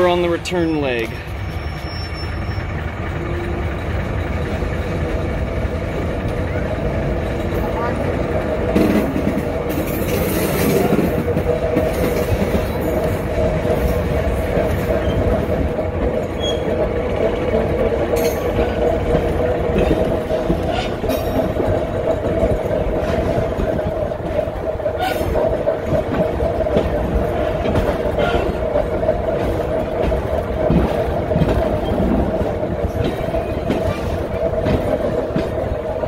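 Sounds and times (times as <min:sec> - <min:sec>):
train rumbling along track: 0:00.0 - 0:36.0
sharp clicks from wheels: 0:01.0 - 0:36.0.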